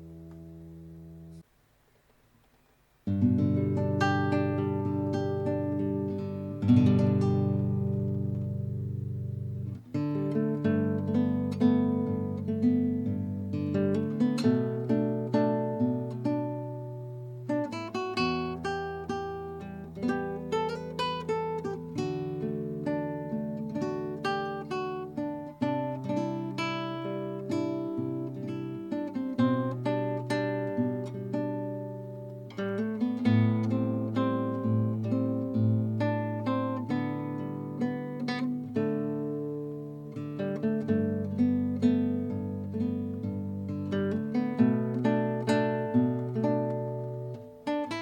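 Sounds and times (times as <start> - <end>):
fingerstyle classical guitar: 0.0 - 1.5, 2.4 - 48.0.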